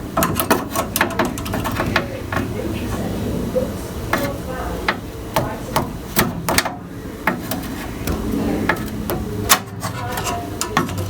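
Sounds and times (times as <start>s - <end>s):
hand tool knocking: 0.0s - 2.6s, 4.1s - 11.0s.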